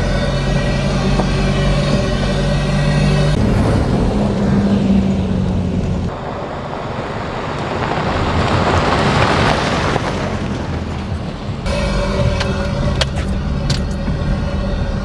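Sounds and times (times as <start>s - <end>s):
engine droning inside cab: 0.0s - 8.8s, 10.0s - 15.0s
vehicle driving past on gravel: 0.7s - 15.0s.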